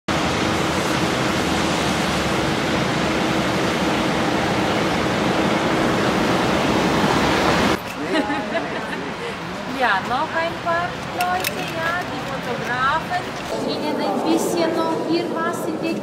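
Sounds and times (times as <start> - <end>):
loud steady rushing noise: 0.1 - 16.0.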